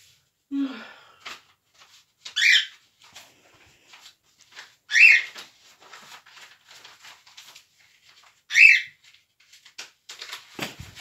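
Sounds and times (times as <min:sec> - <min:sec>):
paper and envelopes rustling: 0:01.0 - 0:11.0.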